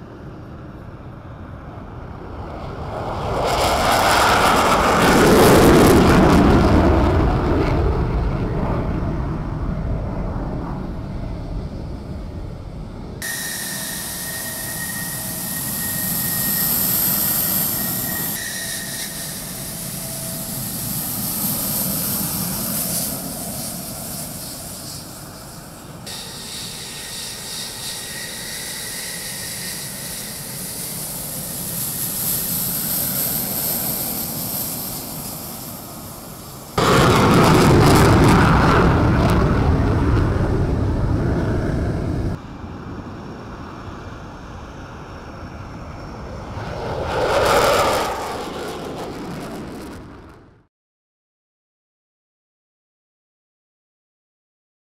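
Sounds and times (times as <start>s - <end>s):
jet engines roaring with whine: 0.0s - 50.7s.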